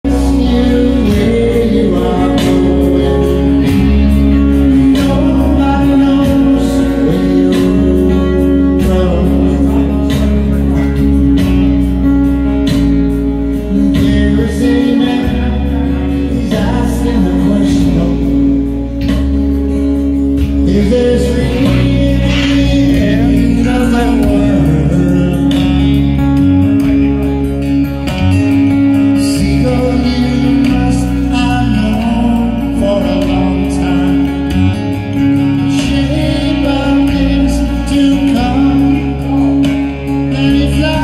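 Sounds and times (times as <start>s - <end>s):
guitars: 0.0s - 41.0s
person singing: 0.0s - 41.0s
steady drum beat: 0.0s - 41.0s.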